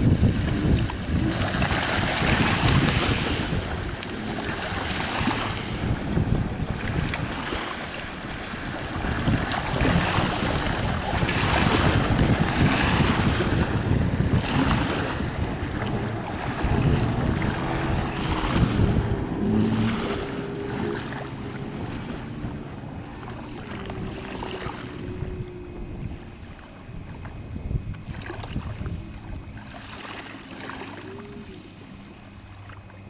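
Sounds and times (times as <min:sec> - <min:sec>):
speedboat engine drone: 0:00.0 - 0:33.0
wind on microphone: 0:00.0 - 0:33.0.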